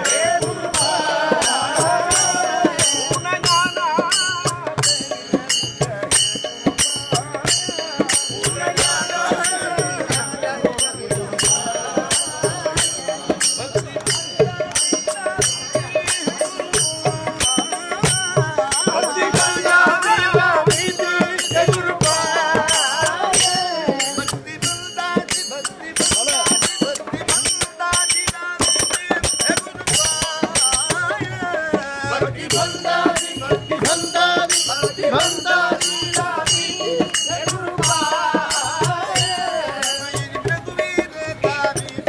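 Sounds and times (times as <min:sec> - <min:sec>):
group of men singing: 0:00.0 - 0:42.0
hand cymbals struck rhythmically: 0:00.0 - 0:42.0.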